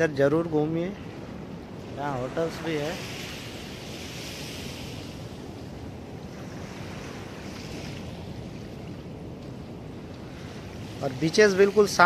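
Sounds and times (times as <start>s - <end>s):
waves washing on sandy beach: 0.0s - 12.0s
wind rumble on microphone: 0.0s - 12.0s.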